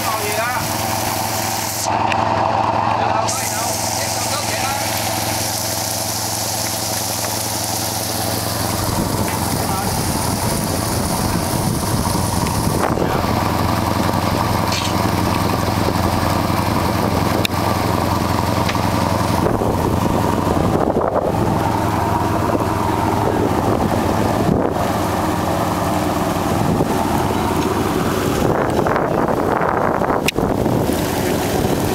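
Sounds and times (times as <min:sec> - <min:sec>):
boat engine running: 0:00.0 - 0:31.9
water splashing along hull: 0:00.0 - 0:31.9.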